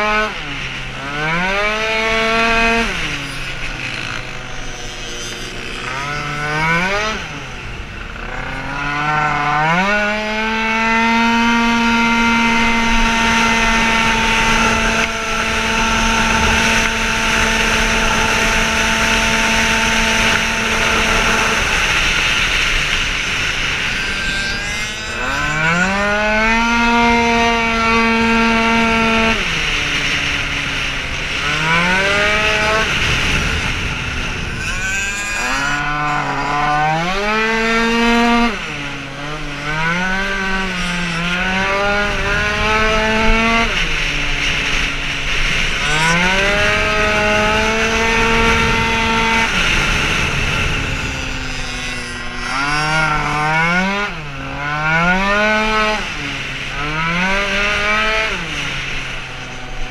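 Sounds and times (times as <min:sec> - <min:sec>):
two-stroke scooter engine revving: 0:00.0 - 0:59.9.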